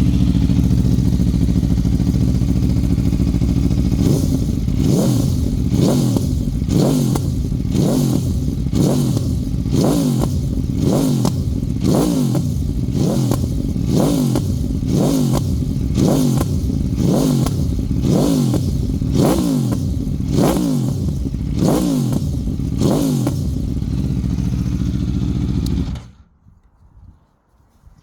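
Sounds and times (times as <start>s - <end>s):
motorcycle engine idling: 0.0s - 26.2s
motorcycle engine revving: 0.0s - 26.2s.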